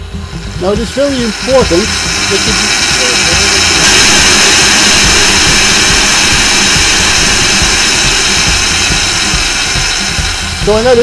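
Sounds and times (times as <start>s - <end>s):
electric mixer whirring: 0.0s - 11.0s.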